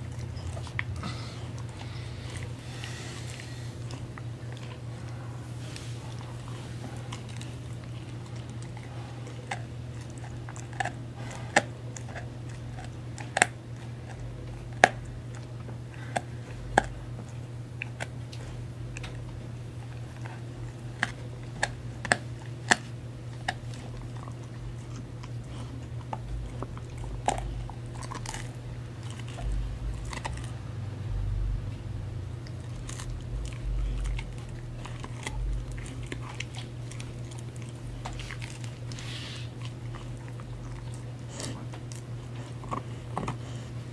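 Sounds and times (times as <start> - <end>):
dog crunching chew treat: 0.0 - 31.0, 32.3 - 43.9
steady low hum: 0.0 - 43.9.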